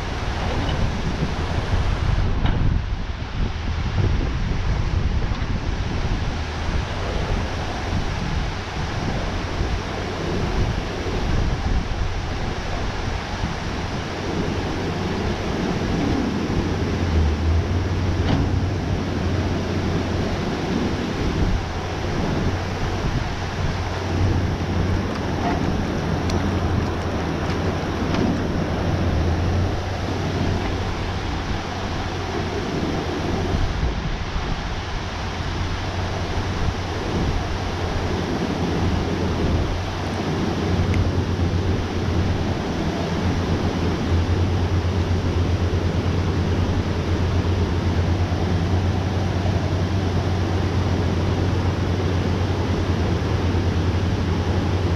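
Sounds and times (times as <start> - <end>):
water pouring through spillway: 0.0 - 54.9
wind buffeting microphone: 0.0 - 54.9.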